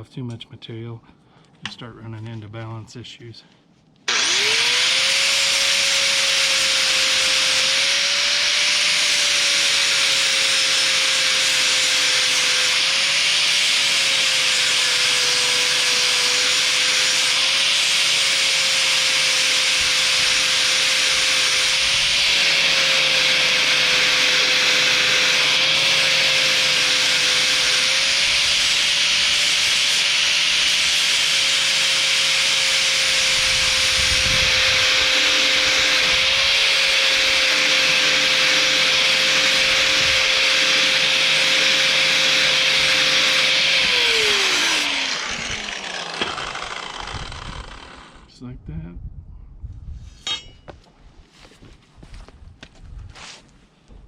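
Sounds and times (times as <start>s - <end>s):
angle grinder grinding metal: 4.1s - 48.3s.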